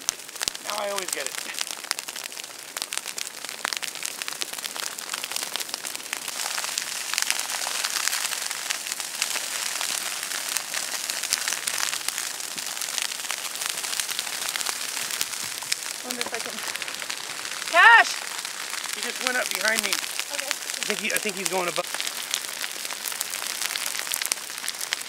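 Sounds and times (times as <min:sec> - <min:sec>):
dry grass crackling as it burns: 0:00.0 - 0:25.0.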